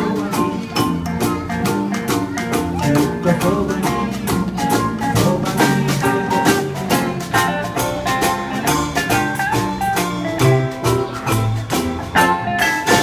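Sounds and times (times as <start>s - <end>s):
acoustic street band playing: 0.0s - 13.0s.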